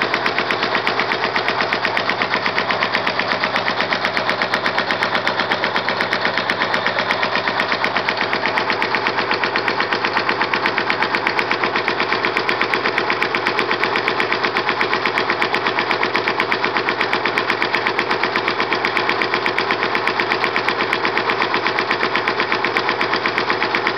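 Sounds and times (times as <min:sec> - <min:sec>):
diesel engine knocking steadily: 0:00.0 - 0:23.9.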